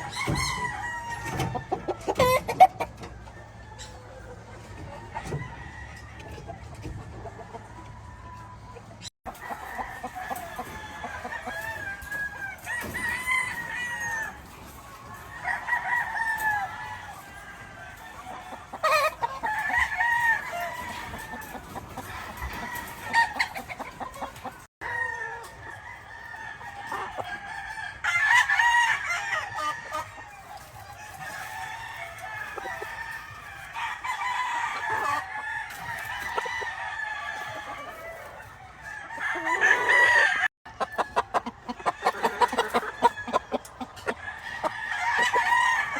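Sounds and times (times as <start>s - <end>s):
roosters crowing: 0.0s - 45.9s.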